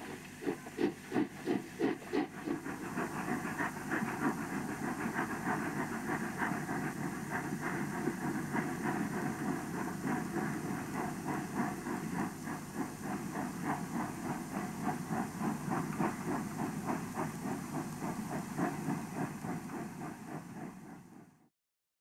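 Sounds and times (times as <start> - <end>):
steam locomotive chuffing: 0.0 - 21.5.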